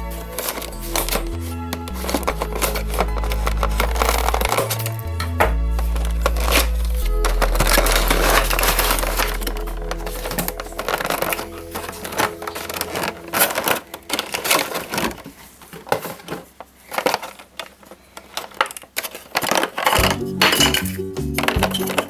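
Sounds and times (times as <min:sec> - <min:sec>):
plastic packaging crinkling: 0:00.0 - 0:22.0
toys being handled: 0:00.0 - 0:22.0.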